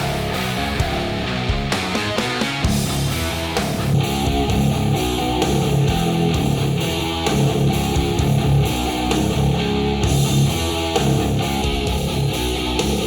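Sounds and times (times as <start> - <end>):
strummed guitar music over speakers: 0.0 - 13.0.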